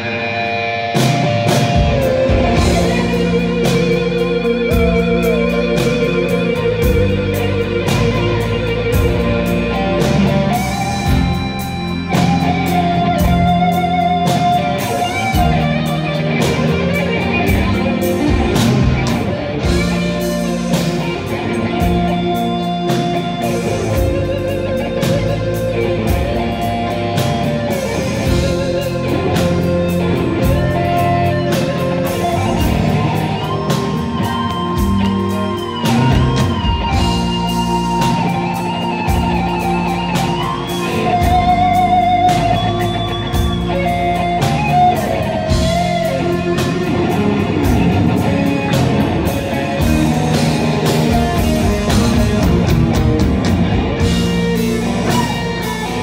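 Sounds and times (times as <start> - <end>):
bass guitar: 0.0 - 56.0
drum kit: 0.0 - 56.0
electric guitar lead: 0.0 - 56.0.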